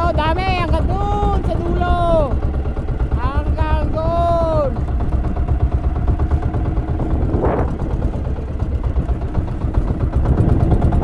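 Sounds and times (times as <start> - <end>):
boat engine running: 0.0 - 11.0
water rushing along hull: 0.0 - 11.0.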